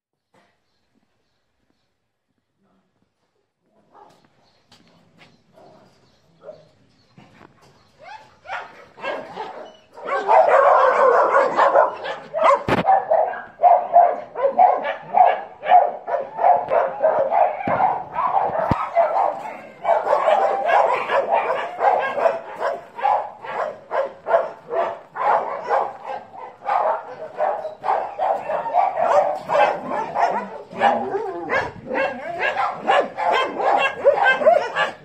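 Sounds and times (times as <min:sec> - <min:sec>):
dogs barking: 0:05.6 - 0:06.8, 0:08.0 - 0:35.0.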